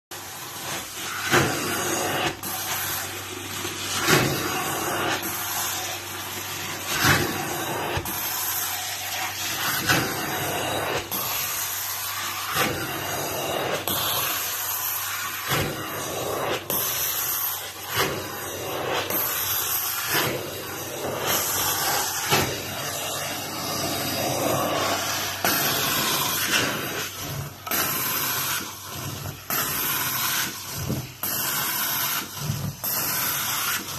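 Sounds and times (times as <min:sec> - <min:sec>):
carpet extraction machine hissing: 0:00.2 - 0:33.9.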